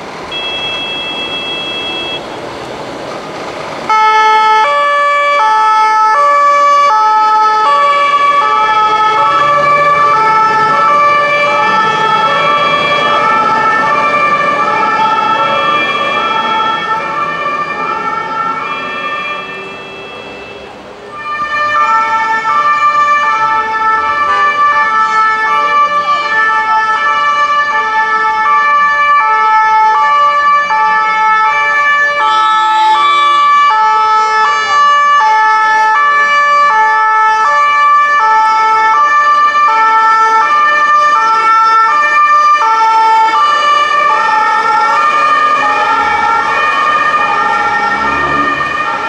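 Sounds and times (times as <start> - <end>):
two-tone ambulance siren: 0.0 - 2.6, 3.8 - 49.0.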